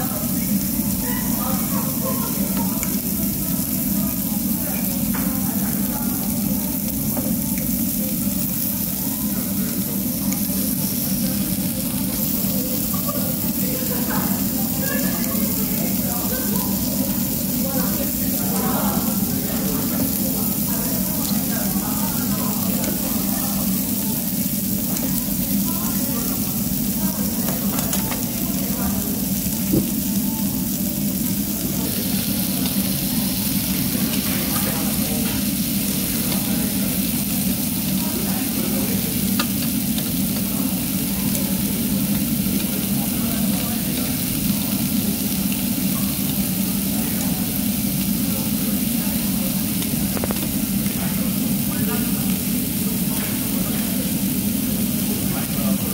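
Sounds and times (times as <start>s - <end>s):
meat sizzling on grill: 0.0s - 55.9s.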